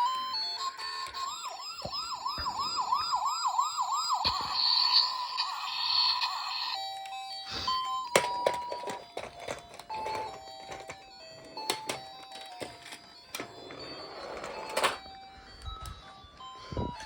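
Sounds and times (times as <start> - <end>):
toy clicks and knocks: 0.0 - 13.8.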